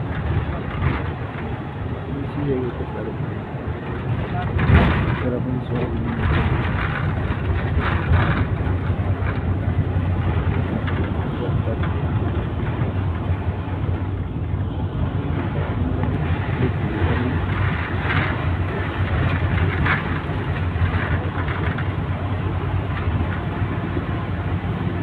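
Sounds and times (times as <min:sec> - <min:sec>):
vehicle engine and tyres rumbling: 0:00.0 - 0:25.0.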